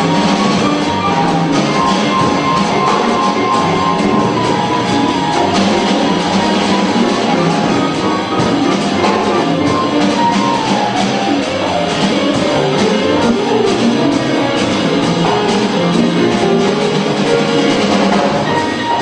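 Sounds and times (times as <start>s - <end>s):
congas: 0.0s - 19.0s
drum kit with cymbals: 0.0s - 19.0s
upright bass: 0.0s - 19.0s.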